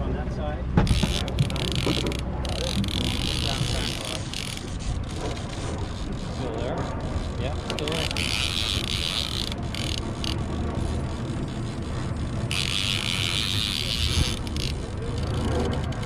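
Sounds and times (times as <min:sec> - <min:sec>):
low rumble: 0:00.0 - 0:16.0
fishing reel whirring: 0:00.9 - 0:16.0.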